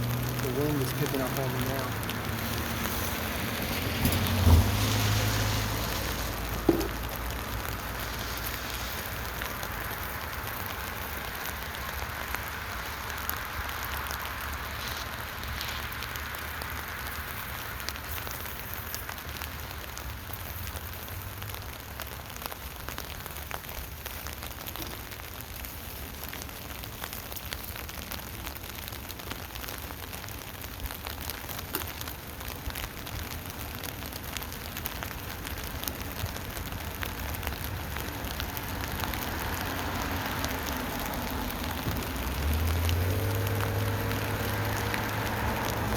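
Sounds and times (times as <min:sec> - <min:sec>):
rain pattering on tent canopy: 0:00.0 - 0:45.9.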